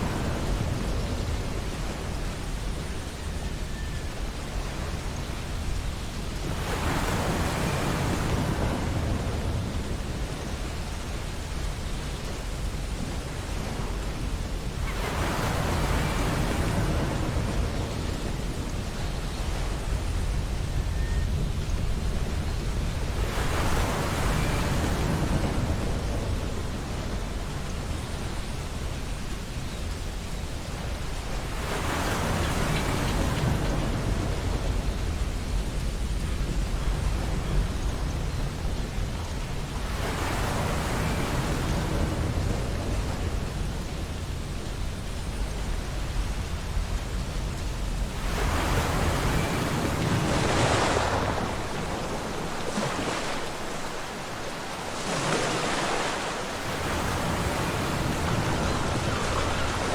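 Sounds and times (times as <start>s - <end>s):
low rumble of sea: 0.0s - 59.9s
ocean surf on beach: 0.0s - 59.9s.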